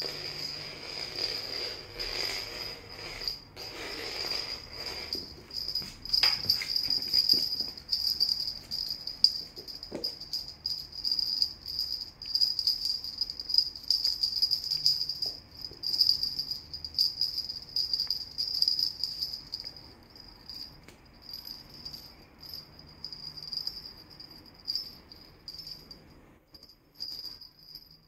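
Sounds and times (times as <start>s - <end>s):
small bells jingling: 0.0s - 28.0s.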